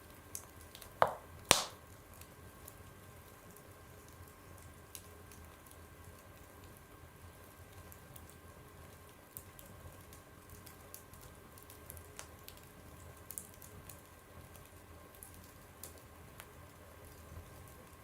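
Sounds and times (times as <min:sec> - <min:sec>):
wood crackling and popping: 0:00.0 - 0:18.0.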